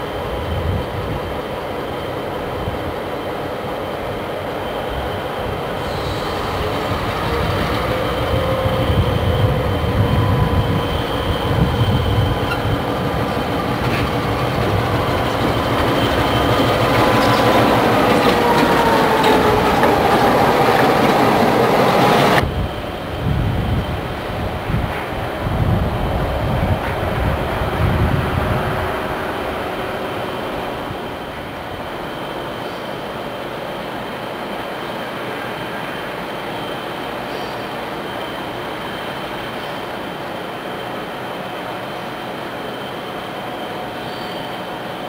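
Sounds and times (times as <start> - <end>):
diesel locomotive engine and wheels: 0.0 - 45.0.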